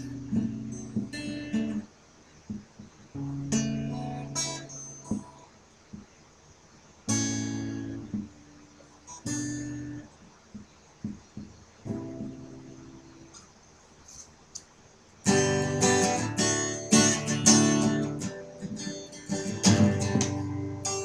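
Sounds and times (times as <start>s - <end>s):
acoustic guitar chords strummed: 0.0s - 1.9s, 2.5s - 6.1s, 7.1s - 13.5s, 15.2s - 21.0s.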